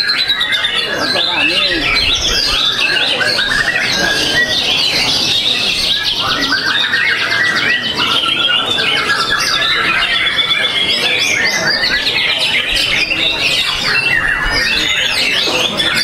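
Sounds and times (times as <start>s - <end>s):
bird singing with trills: 0.0s - 16.0s.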